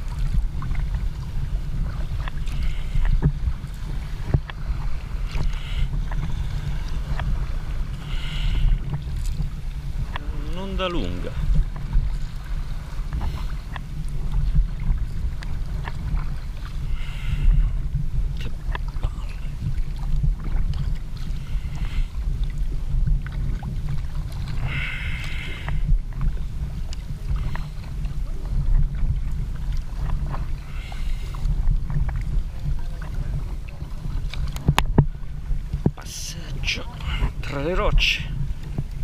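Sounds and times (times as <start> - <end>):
paddle splashing: 0.0 - 39.0
water clicking against hull: 0.0 - 39.0
wind and water rumble: 0.0 - 39.0.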